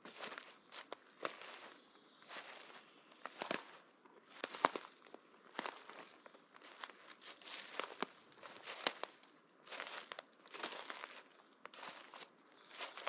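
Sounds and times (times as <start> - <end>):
footsteps crunching through dry leaves: 0.0 - 13.0.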